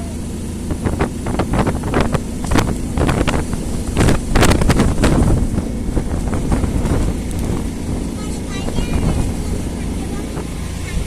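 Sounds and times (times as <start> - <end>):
motorboat engine noise: 0.0 - 11.0
wind buffeting microphone: 0.1 - 11.0.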